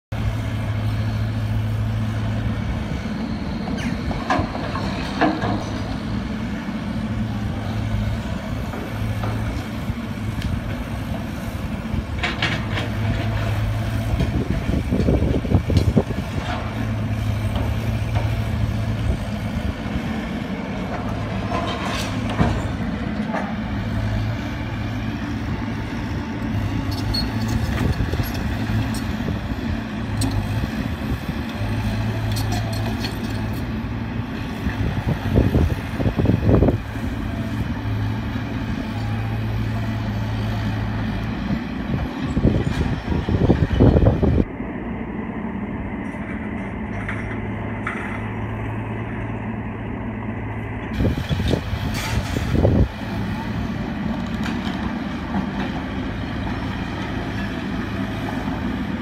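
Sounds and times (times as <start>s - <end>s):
excavator diesel engine running: 0.1s - 59.0s.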